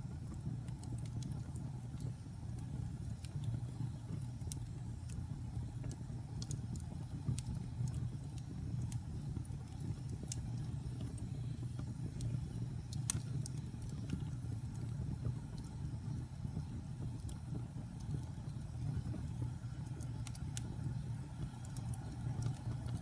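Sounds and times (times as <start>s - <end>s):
fire crackling and popping: 0.0s - 23.0s
fire rumbling in fireplace: 0.0s - 23.0s.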